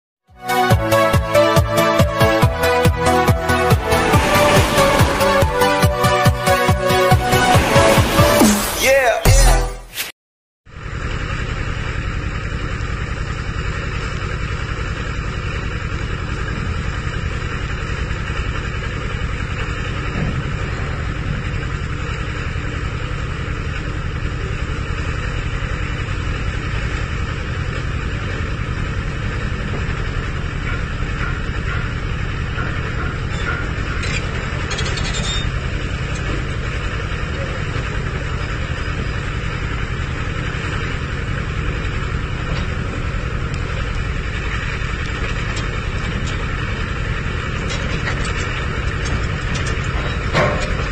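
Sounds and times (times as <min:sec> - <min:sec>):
bulldozer diesel engine running: 0:00.3 - 0:08.8, 0:10.7 - 0:50.9.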